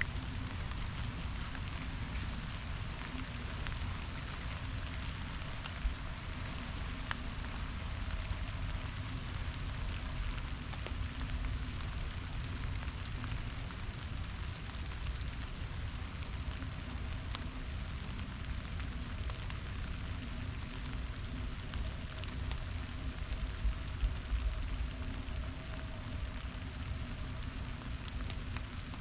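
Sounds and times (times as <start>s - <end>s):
light rain on leaves: 0.0s - 29.0s
low rumble: 0.0s - 29.0s.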